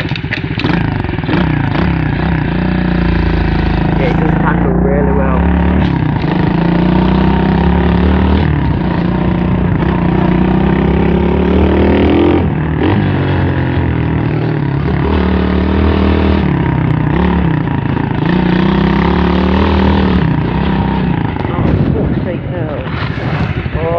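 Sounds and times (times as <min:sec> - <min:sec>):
pit bike engine revving: 0:00.0 - 0:23.9.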